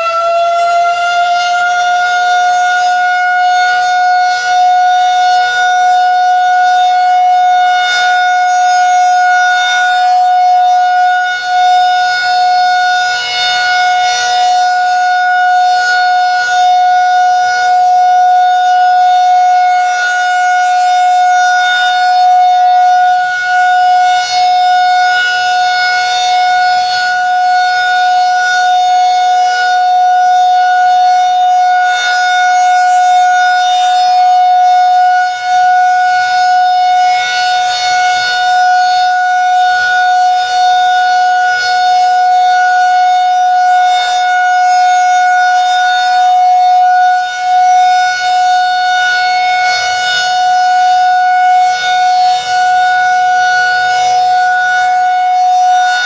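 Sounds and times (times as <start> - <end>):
rotating siren steady tone: 0.0 - 56.0.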